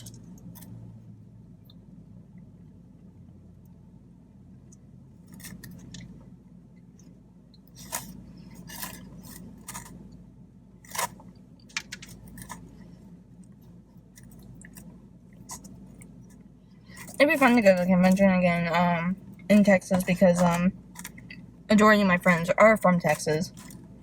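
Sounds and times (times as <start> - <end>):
crunchy chewing of fried food: 0.0 - 1.1, 4.7 - 24.0
low steady hum: 0.0 - 24.0.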